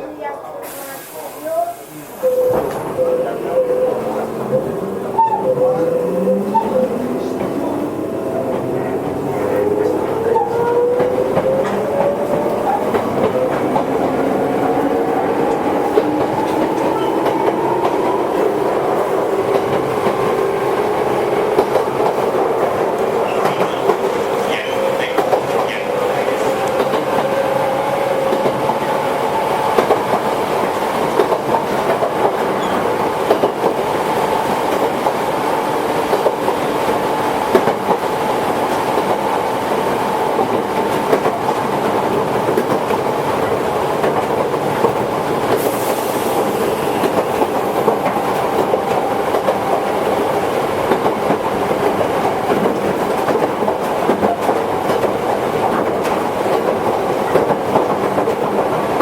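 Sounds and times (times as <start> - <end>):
train wheels rolling on rail: 0.1 - 59.0.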